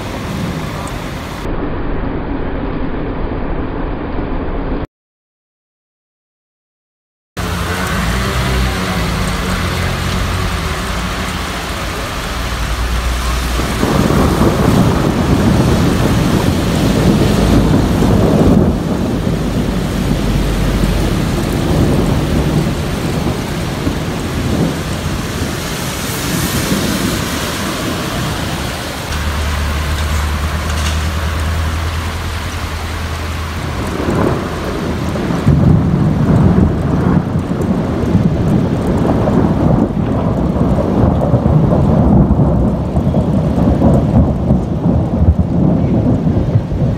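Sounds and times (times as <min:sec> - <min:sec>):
steady rain falling: 0:00.0 - 0:01.5, 0:07.4 - 0:46.9
rolling thunder: 0:00.0 - 0:04.9, 0:07.4 - 0:46.9.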